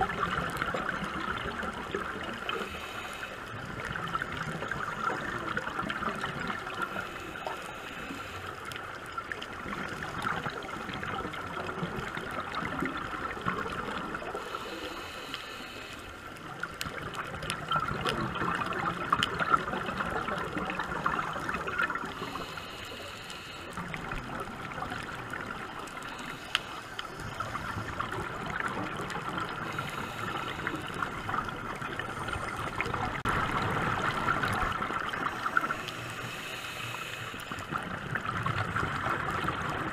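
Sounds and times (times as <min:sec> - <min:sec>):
crackling clicks: 0:00.0 - 0:39.9
water gurgling: 0:00.0 - 0:39.9
underwater watery hiss: 0:00.1 - 0:11.0, 0:11.7 - 0:39.6.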